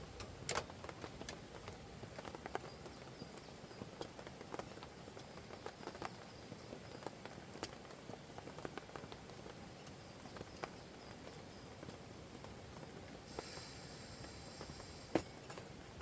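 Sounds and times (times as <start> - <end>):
campfire crackling and popping: 0.0 - 16.0
river flowing: 0.0 - 16.0.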